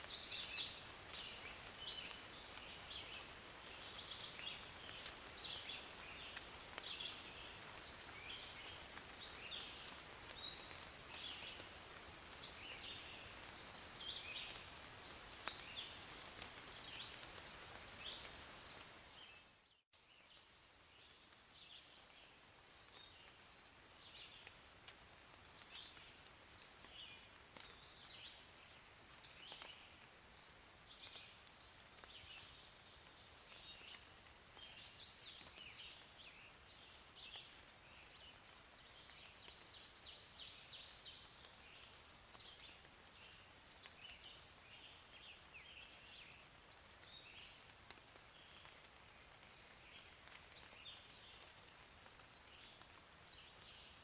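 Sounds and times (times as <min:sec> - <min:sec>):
light steady hiss: 0:00.0 - 0:54.0.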